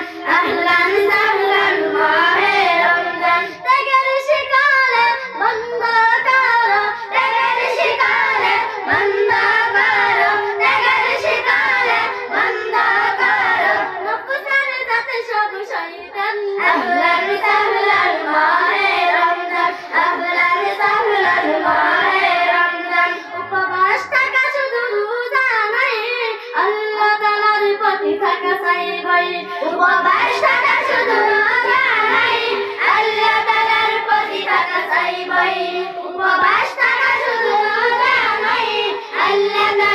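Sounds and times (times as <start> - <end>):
girls singing together: 0.0 - 39.9.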